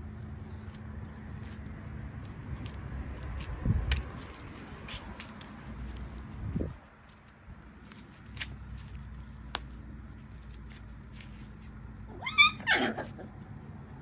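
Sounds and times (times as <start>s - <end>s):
claws scratching on concrete: 0.4s - 12.1s.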